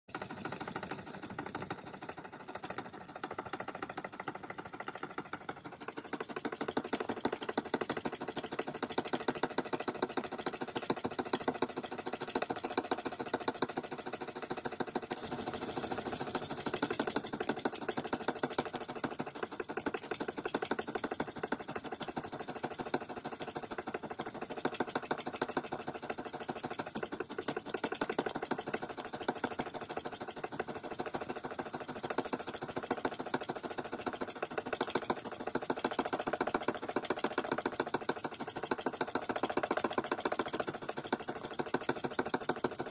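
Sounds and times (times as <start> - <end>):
model steam engine clattering: 0.1 - 42.9.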